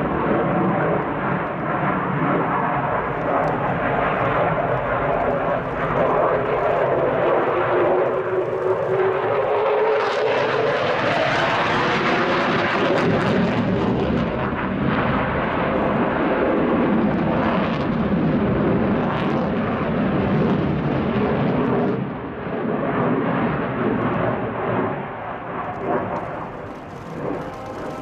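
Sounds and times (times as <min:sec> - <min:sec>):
jet engines at high power: 0:00.0 - 0:28.0.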